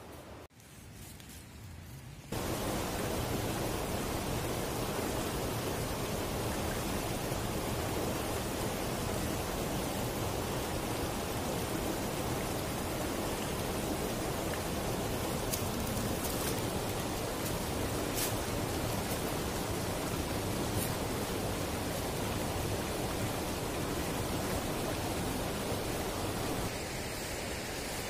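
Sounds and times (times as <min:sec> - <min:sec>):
stream rushing over stones: 0:02.3 - 0:28.0.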